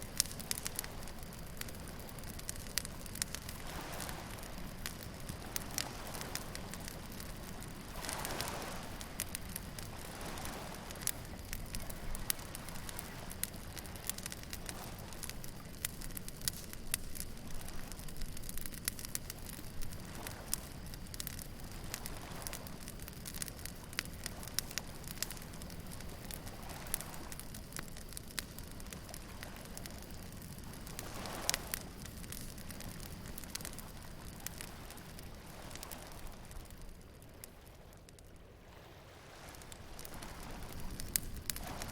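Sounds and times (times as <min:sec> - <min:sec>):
waves washing: 0:00.0 - 0:27.6, 0:28.8 - 0:36.8, 0:38.6 - 0:41.9
bonfire crackling and popping: 0:00.0 - 0:41.9.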